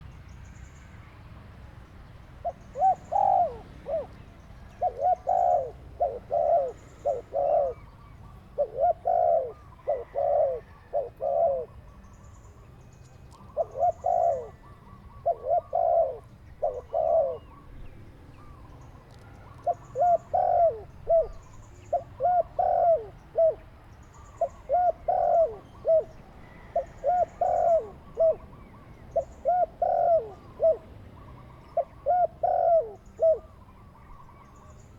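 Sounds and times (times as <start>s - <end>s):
dove cooing: 2.4s - 12.7s, 13.3s - 34.9s.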